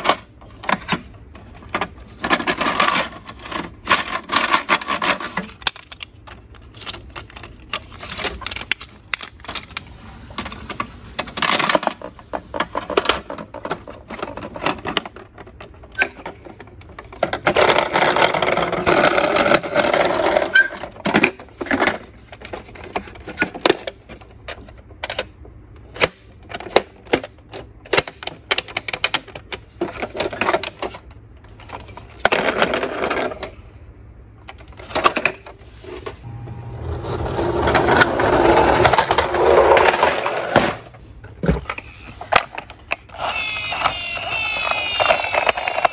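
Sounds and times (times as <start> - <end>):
plastic toy clicks and rattles: 0.0 - 25.3, 25.9 - 33.5, 41.7 - 45.9.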